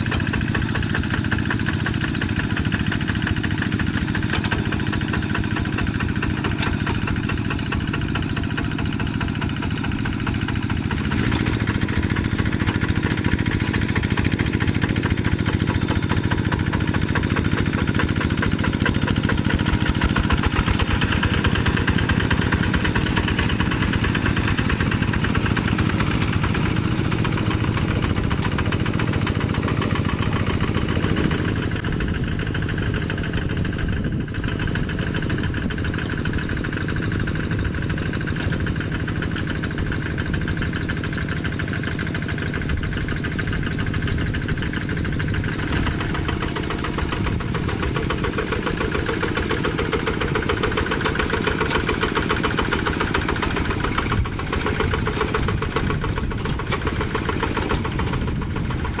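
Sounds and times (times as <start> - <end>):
hand tractor diesel engine: 0.0 - 59.0.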